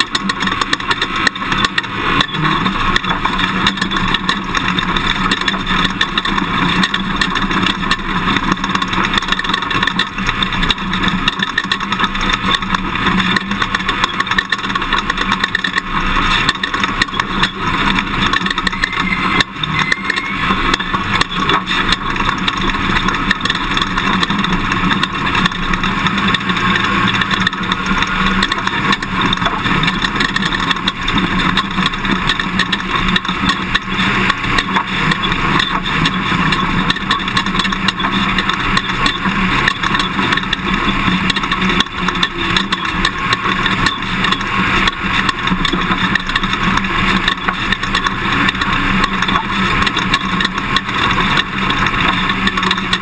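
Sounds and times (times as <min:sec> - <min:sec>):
knocks and rattles: 0:00.0 - 0:53.0
pickup engine and tyre noise: 0:00.0 - 0:53.0.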